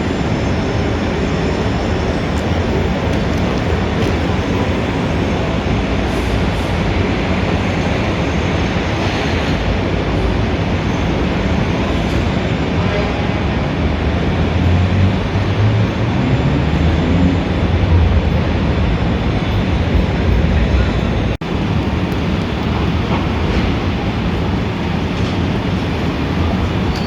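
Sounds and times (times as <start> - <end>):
city street traffic roar: 0.0 - 27.0
heavy vehicle engine: 0.0 - 27.0.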